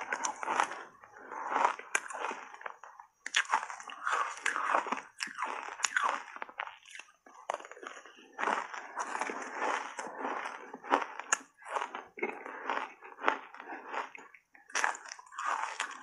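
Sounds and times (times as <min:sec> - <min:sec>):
crunching shaved ice: 0:00.0 - 0:16.0.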